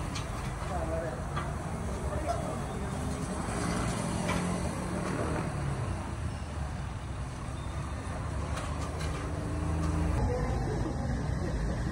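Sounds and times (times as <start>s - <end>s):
road traffic rumble: 0.0s - 11.9s.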